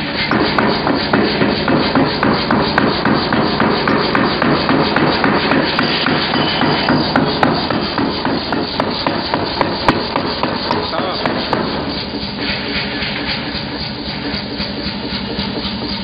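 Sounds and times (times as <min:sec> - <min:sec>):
forging hammer striking wood: 0:00.0 - 0:16.0
machine humming: 0:00.0 - 0:16.0.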